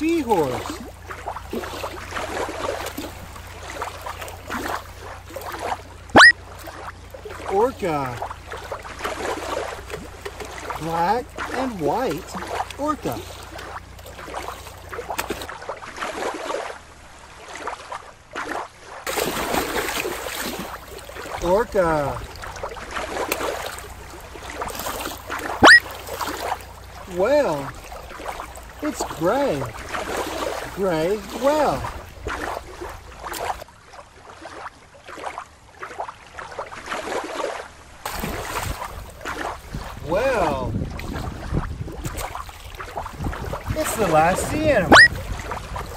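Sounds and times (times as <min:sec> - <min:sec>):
water splashing and sloshing: 0:00.0 - 0:45.9.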